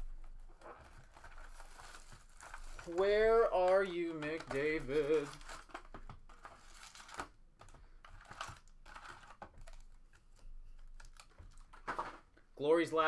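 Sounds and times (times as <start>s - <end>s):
card packs tapping and rustling: 0.0s - 12.5s.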